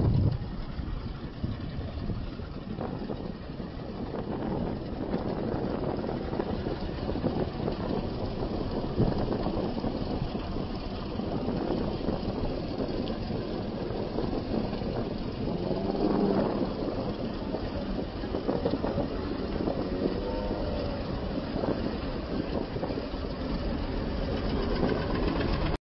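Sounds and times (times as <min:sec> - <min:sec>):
vehicle engine running: 0:00.0 - 0:25.8
wind rumbling on microphone: 0:00.0 - 0:25.8.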